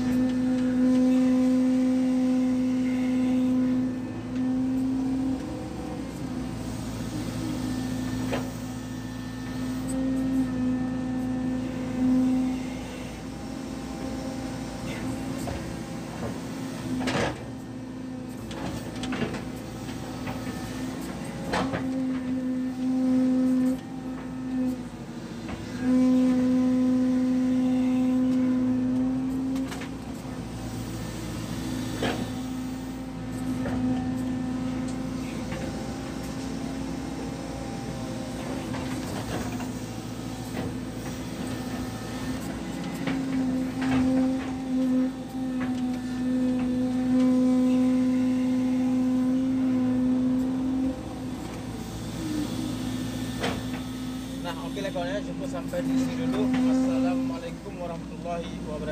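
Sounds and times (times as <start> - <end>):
excavator engine and hydraulics: 0.0 - 58.9.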